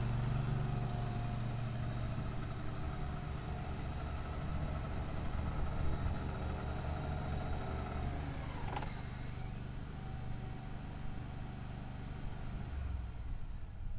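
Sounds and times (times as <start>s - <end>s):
riding mower engine running: 0.0s - 13.9s.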